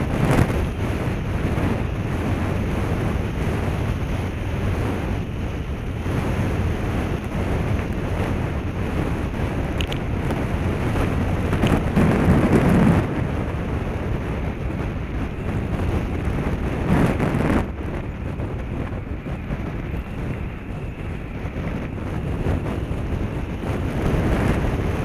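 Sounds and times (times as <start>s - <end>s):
wind buffeting camera microphone: 0.0s - 25.0s.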